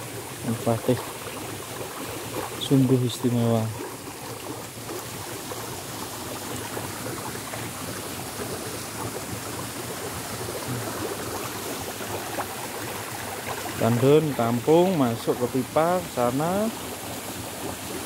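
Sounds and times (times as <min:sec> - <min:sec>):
water rushing through stone channel: 0:00.0 - 0:18.0.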